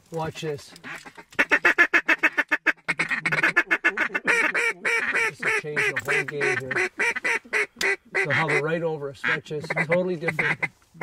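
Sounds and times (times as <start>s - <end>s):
duck call quacks: 0.8s - 10.7s.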